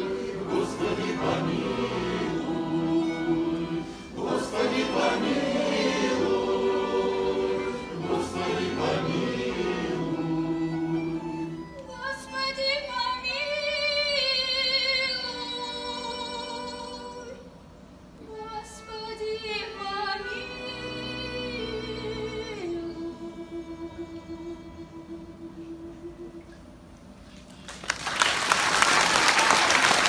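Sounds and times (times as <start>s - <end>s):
choir singing sustained chords: 0.0s - 17.5s, 18.2s - 26.6s.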